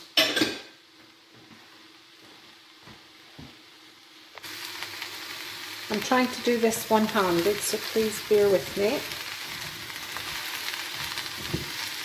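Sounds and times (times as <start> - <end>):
vegetables sizzling in a pan: 1.6 - 12.0.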